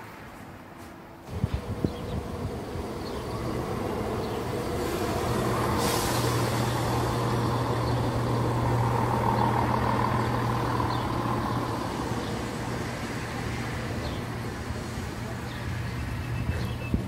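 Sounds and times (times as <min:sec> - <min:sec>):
train engine drone: 0:00.1 - 0:16.5
wheels on rails: 0:01.3 - 0:16.2.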